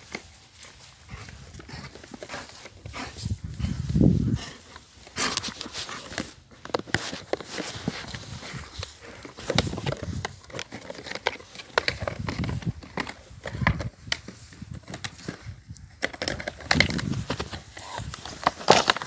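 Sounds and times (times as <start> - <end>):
dog tussling with toy on grass: 0.0 - 19.0.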